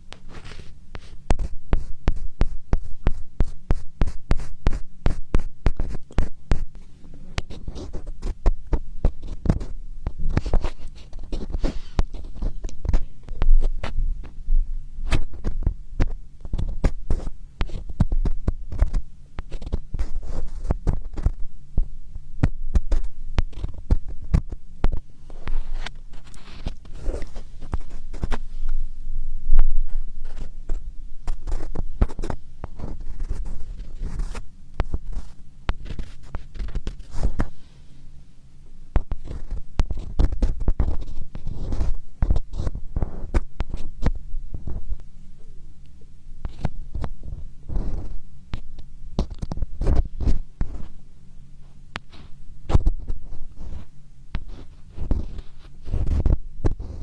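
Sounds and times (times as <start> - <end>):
scratching on a microphone: 0.0 - 38.0, 38.9 - 45.1, 46.4 - 57.0.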